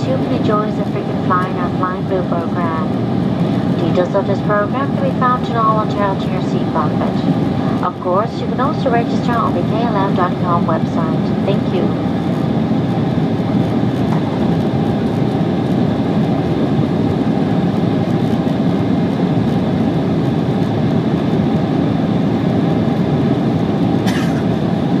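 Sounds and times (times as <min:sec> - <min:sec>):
airflow over fuselage: 0:00.0 - 0:25.0
airliner cabin engine rumble: 0:00.0 - 0:25.0.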